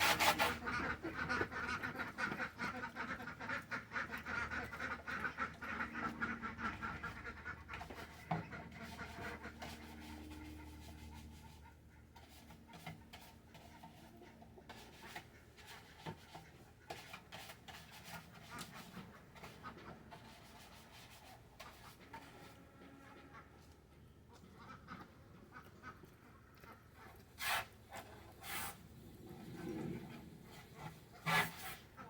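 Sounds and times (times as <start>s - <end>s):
ducks quacking softly: 0.0s - 28.7s, 29.3s - 32.0s.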